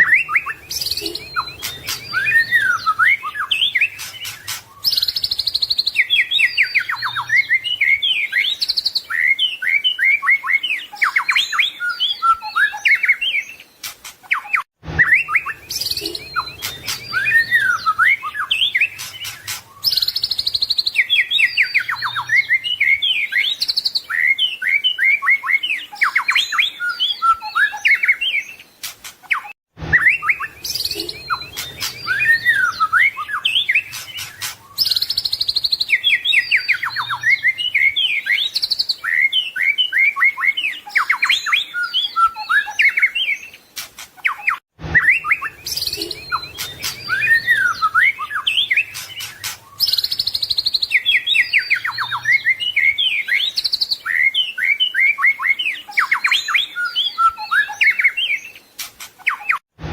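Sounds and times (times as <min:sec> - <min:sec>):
bird singing whistles and trills: 0:00.0 - 0:59.6.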